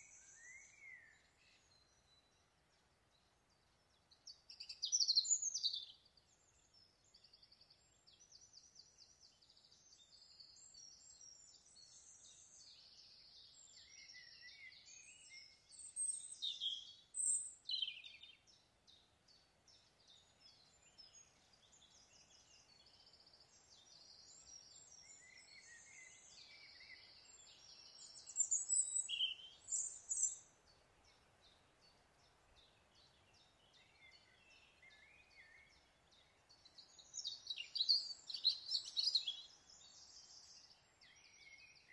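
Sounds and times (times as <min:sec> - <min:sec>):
birds chirping and trilling: 0:00.0 - 0:41.9
faint background hiss: 0:00.0 - 0:41.9.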